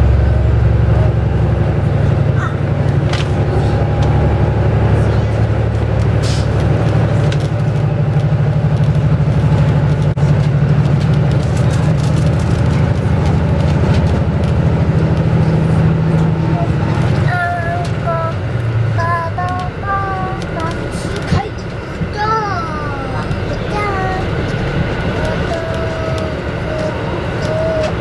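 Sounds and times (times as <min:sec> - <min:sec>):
train wheels rumbling and humming: 0:00.0 - 0:28.0
sharp clicks from rails: 0:02.7 - 0:28.0.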